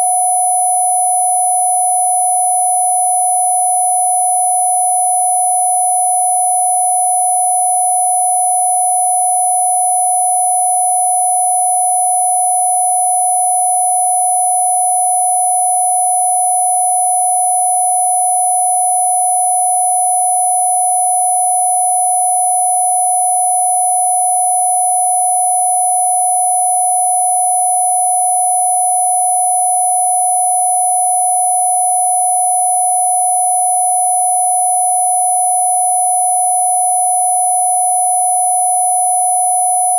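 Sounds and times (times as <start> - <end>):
steady electronic sine tone: 0.0 - 39.9.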